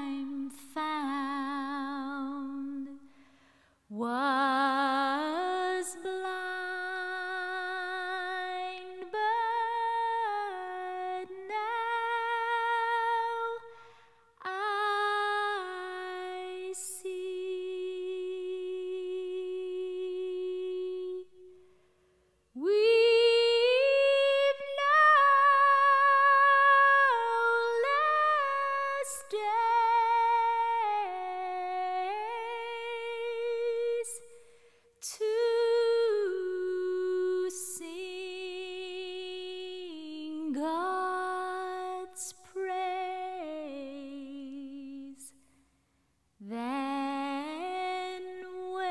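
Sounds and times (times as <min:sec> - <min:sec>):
woman singing unaccompanied: 0:00.0 - 0:03.0, 0:03.9 - 0:13.7, 0:14.4 - 0:21.4, 0:22.6 - 0:34.4, 0:35.0 - 0:45.3, 0:46.4 - 0:48.9.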